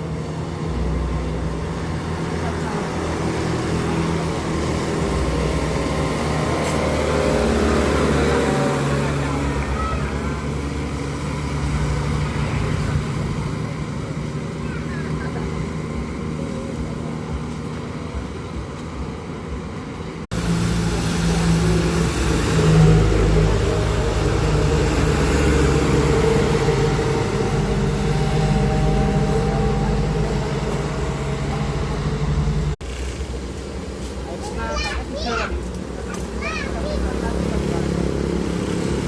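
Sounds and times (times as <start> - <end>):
close steady engine note: 0.0 - 34.1
vehicle engines running: 0.0 - 39.0.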